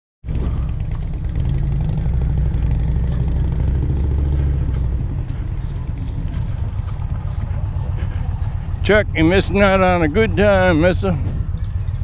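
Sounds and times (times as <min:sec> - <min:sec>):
motorcycle engine at low revs: 0:00.2 - 0:12.0.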